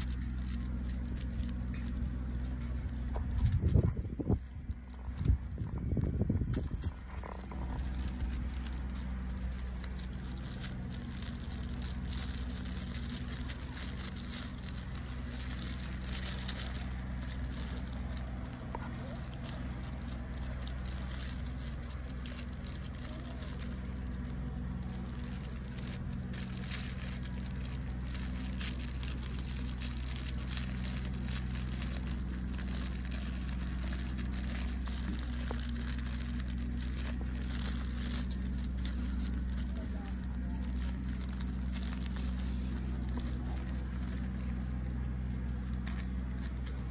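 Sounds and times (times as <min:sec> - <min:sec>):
rustling in dry leaves: 0:00.0 - 0:46.9.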